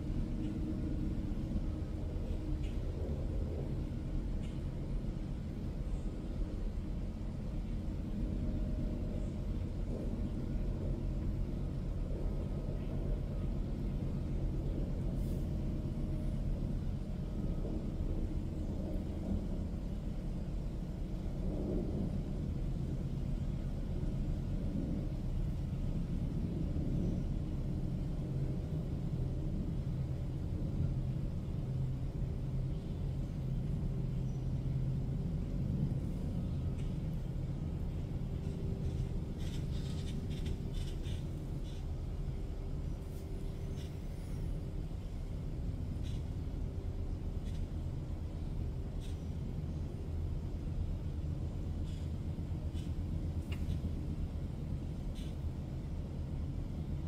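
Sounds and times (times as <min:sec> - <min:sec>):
low rumble and hum: 0:00.0 - 0:57.0.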